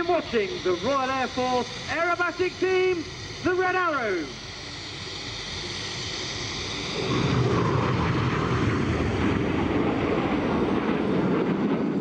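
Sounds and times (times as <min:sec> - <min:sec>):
jet aircraft roar: 0:00.0 - 0:12.0.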